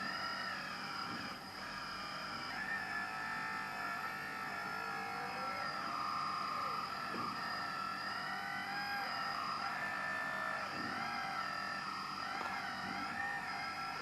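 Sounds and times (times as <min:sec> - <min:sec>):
electric motors and hydraulic pump whining: 0:00.0 - 0:14.0.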